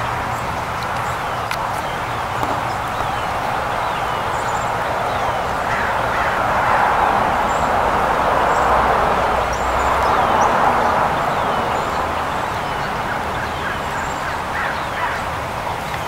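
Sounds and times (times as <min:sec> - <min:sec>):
small songbirds chirping: 0:00.0 - 0:06.4, 0:08.4 - 0:16.0
loud steady rushing noise: 0:00.0 - 0:16.0.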